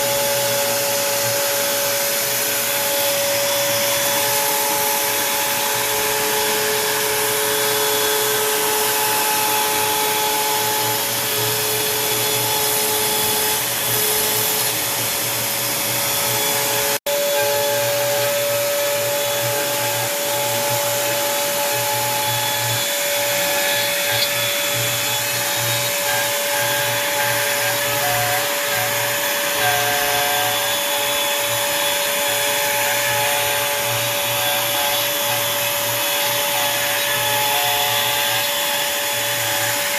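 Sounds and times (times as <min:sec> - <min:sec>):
router cutting wood: 0:00.0 - 0:39.9
router spindle whining: 0:00.0 - 0:39.9.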